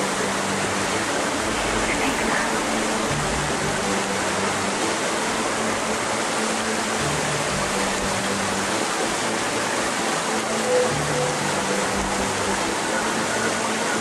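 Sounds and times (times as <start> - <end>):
low held music notes: 0.0 - 14.0
river rushing over rocks: 0.0 - 14.0.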